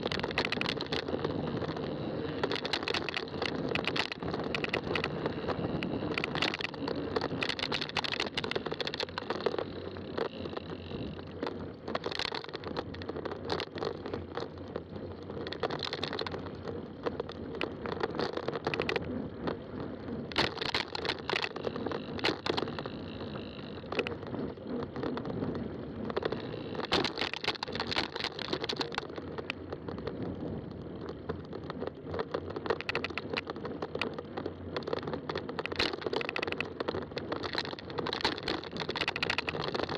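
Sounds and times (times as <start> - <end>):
bike clicks and rattles: 0.0 - 39.9
bike tyres rolling on trail: 0.0 - 39.9.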